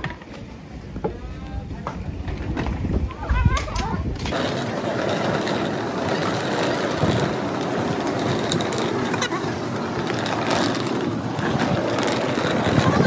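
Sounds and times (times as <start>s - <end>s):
suitcase wheels rolling on concrete: 0.0s - 13.0s.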